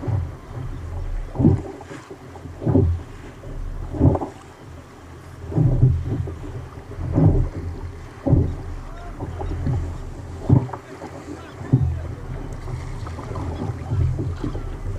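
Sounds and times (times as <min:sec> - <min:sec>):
water splashing around kayak: 0:00.0 - 0:14.9
wind on microphone: 0:00.0 - 0:14.9.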